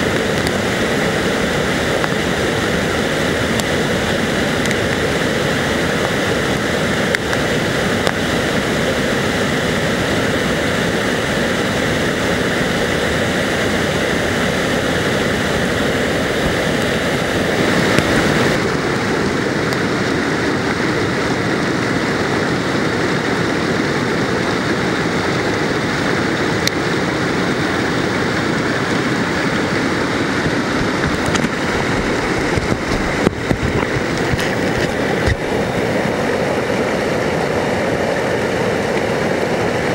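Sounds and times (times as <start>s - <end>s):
waterfall rushing roar: 0.0s - 39.9s.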